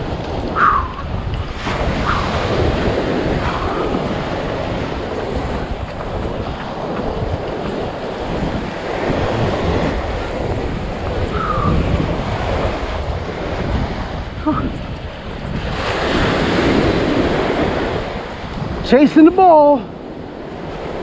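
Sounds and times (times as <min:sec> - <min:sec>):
surf washing up on beach: 0:00.0 - 0:21.0
wind buffeting microphone: 0:00.0 - 0:21.0.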